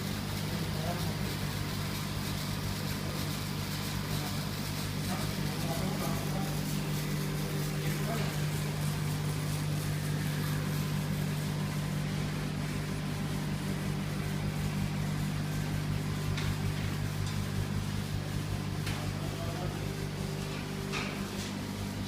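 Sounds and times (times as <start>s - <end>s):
laser engraving machine humming: 0.0s - 22.0s.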